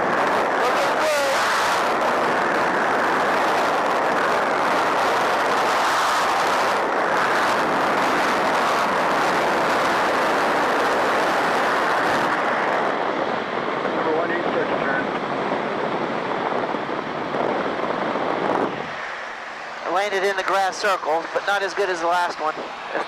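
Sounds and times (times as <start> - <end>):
aircraft engine roar: 0.0 - 23.0
wind rushing through window: 0.0 - 23.0.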